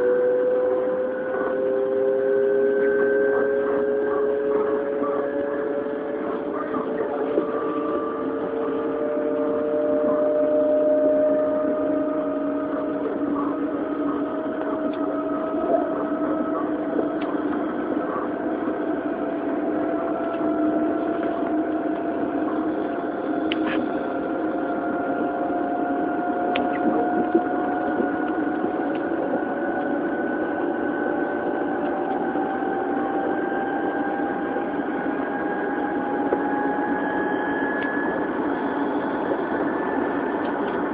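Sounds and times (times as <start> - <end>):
electric train motor whine: 0.0 - 40.9
wheels rumbling on rail: 0.0 - 40.9.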